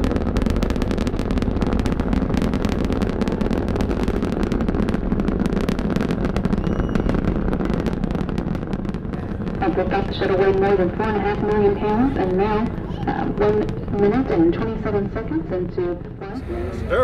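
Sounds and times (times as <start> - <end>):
rocket launch rumble with crackling: 0.0 - 16.8.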